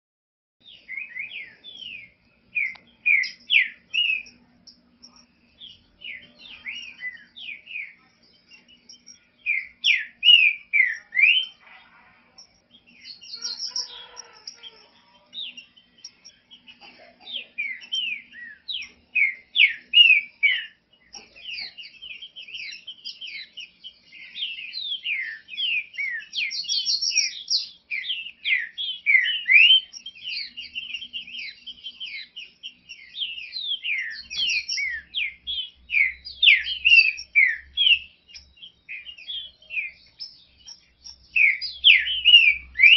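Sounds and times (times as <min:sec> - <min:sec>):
bird singing whistled notes: 0:00.6 - 0:11.7, 0:12.3 - 0:16.8, 0:17.4 - 0:42.9.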